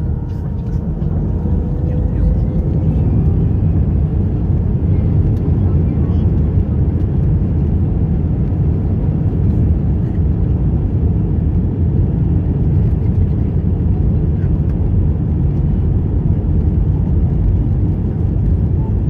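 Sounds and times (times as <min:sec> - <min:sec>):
airliner cabin engine drone: 0:00.0 - 0:19.0.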